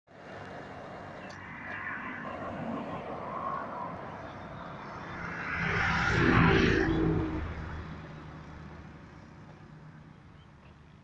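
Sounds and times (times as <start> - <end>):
low outdoor hum: 0.1 - 11.0.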